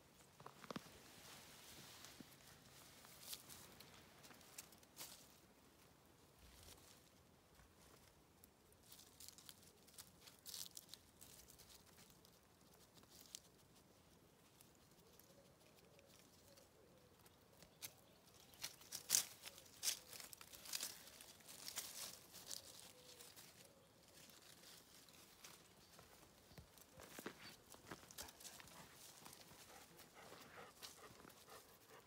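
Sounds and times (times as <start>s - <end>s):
dry leaves and twigs rustling: 0.0s - 32.0s.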